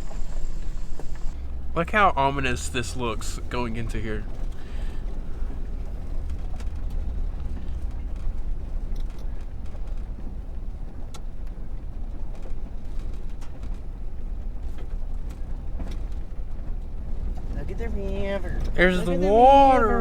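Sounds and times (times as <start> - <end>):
low rumble of engine and tyres: 0.0 - 20.0.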